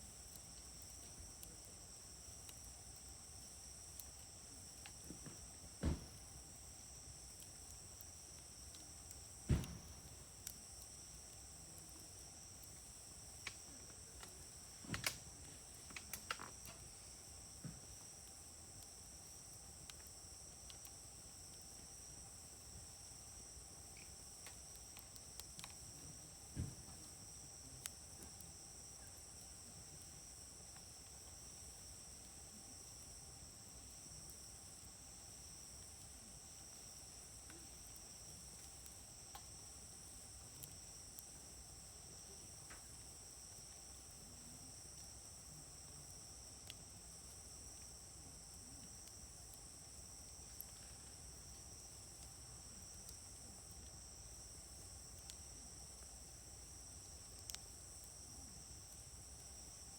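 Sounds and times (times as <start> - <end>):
campfire popping: 0.0 - 59.9
insects chirring: 0.0 - 59.9.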